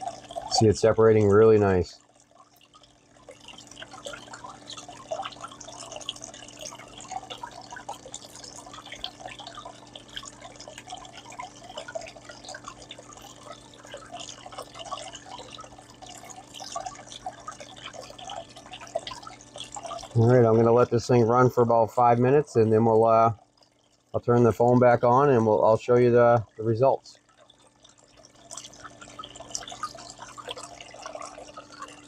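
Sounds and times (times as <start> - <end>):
steady low hum: 0.0 - 32.0
water jets spraying and dripping: 0.0 - 32.0.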